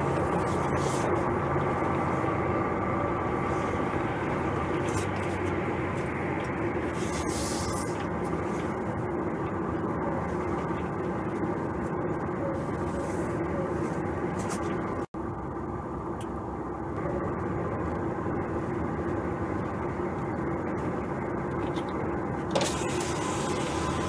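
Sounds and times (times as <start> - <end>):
truck diesel engine humming: 0.0 - 24.0.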